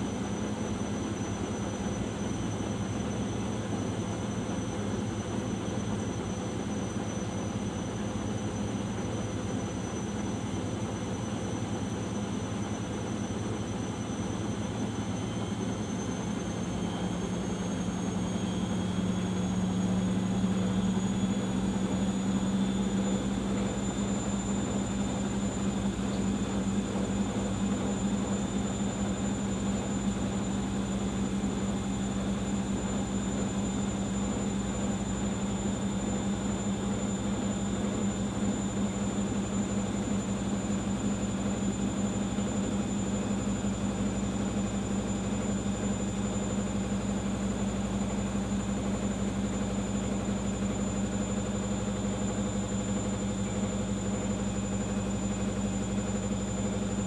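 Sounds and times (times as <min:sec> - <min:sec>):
washing machine spinning: 0:00.1 - 0:57.0.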